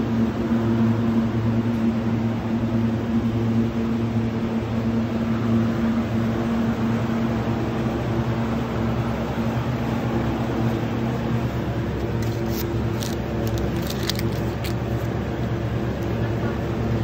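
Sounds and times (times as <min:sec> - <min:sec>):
refrigerated cabinets humming: 0:00.0 - 0:17.0.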